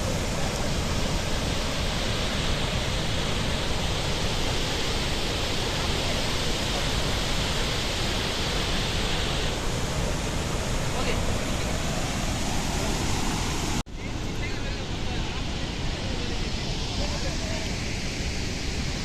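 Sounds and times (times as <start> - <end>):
roar of waterfall: 0.0 - 19.0.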